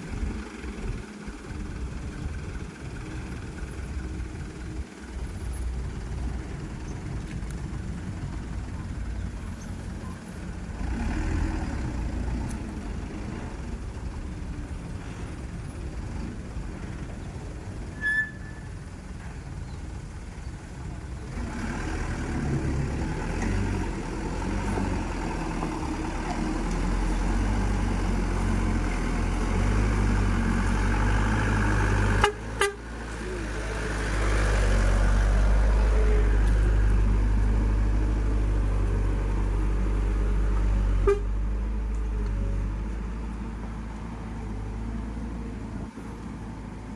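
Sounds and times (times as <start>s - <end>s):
diesel truck engine rumble: 0.0s - 46.9s.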